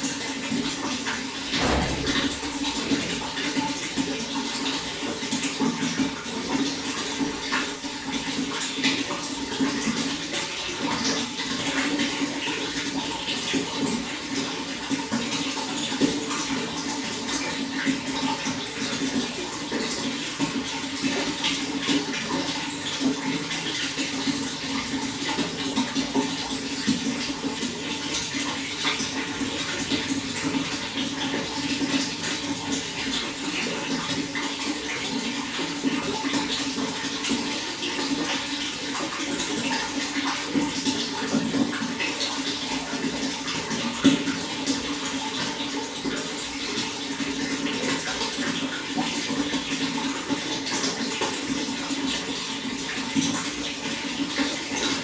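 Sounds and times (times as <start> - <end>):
running water with splashes: 0.0 - 55.0.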